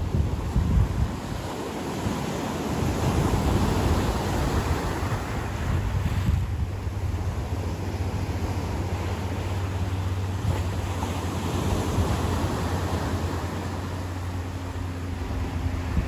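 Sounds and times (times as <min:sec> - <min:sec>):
ocean surf on beach: 0:00.0 - 0:16.0
wind buffeting microphone: 0:00.0 - 0:16.0.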